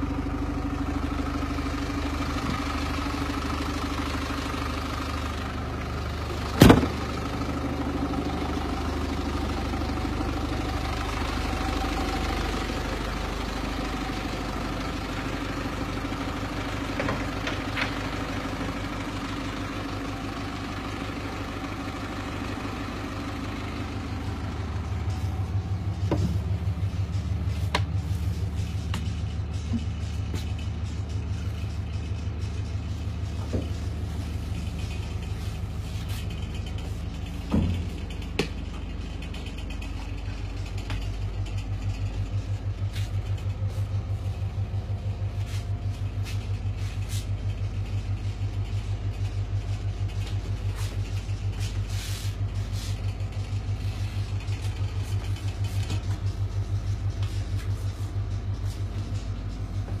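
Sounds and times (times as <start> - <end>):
diesel engine idling: 0.0 - 60.0.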